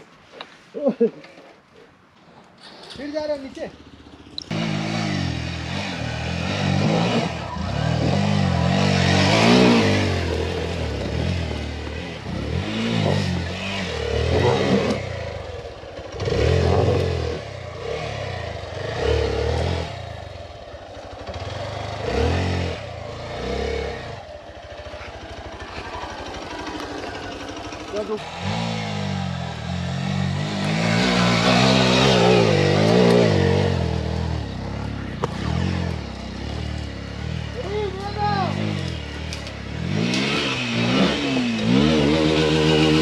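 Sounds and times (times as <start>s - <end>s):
motorcycle engine revving: 2.9s - 43.0s.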